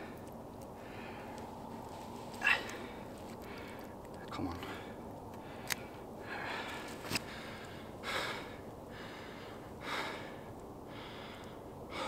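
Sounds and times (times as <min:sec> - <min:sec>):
man breathing heavily: 0:00.0 - 0:12.0.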